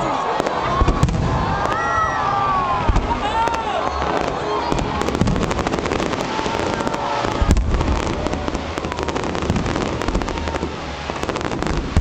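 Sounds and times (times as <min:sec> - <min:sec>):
fireworks crackling: 0:00.0 - 0:12.0
deep booms of firework shells: 0:00.4 - 0:01.9, 0:02.8 - 0:03.6, 0:04.2 - 0:12.0.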